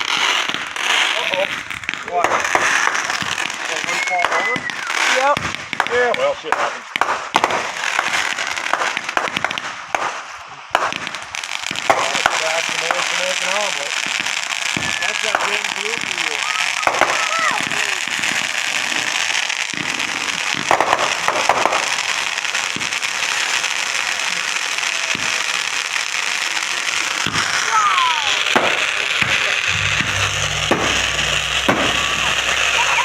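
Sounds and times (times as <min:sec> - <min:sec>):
fireworks bangs: 0:00.0 - 0:33.0
fireworks crackling and popping: 0:00.0 - 0:33.0
fireworks falling whistles: 0:00.0 - 0:33.0.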